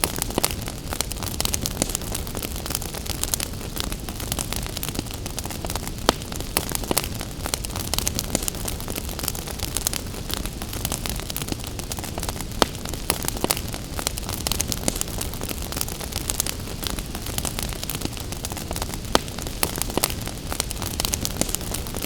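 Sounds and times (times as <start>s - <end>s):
gentle rain hiss: 0.0s - 22.0s
wood fire crackling and popping: 0.0s - 22.0s.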